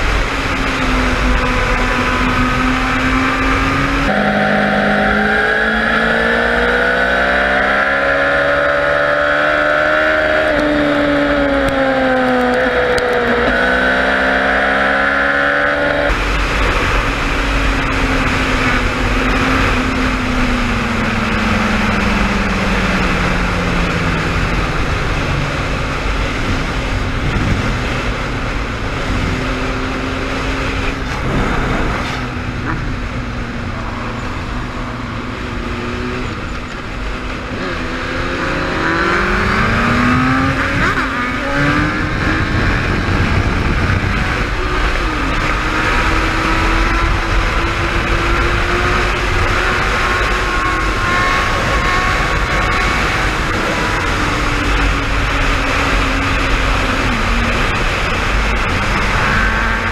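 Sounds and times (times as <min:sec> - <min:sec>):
motorcycle engine at speed: 0:00.0 - 0:59.9
wind rush: 0:00.0 - 0:59.9.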